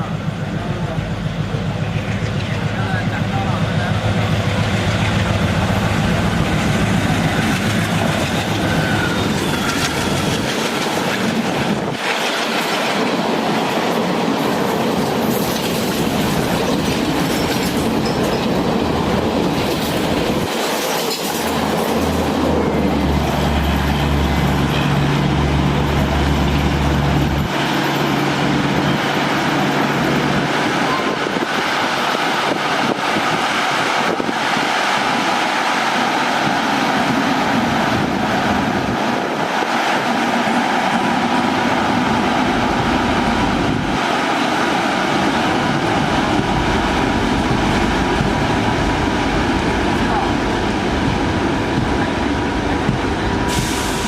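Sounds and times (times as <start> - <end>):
train wheels rushing on rails: 0.0 - 54.0.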